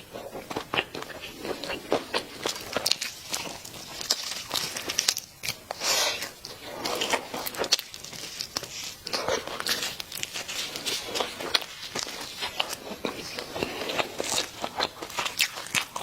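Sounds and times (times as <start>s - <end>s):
fried chicken crunching: 0.0s - 16.0s.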